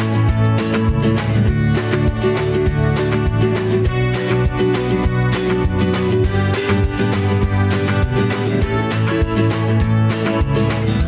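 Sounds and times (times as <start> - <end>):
upbeat guitar music: 0.0 - 11.0.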